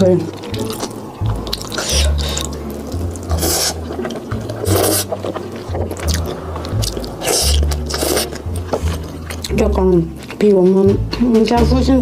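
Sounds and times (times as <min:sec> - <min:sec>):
noodle slurping and chewing: 0:00.3 - 0:10.4.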